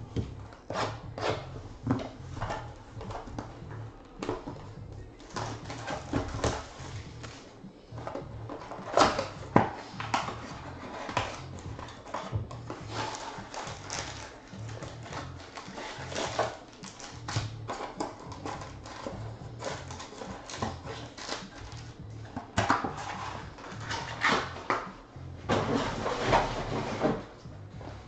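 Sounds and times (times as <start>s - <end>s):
background music: 0.0s - 28.0s
cardboard rustling and tapping: 0.1s - 28.0s.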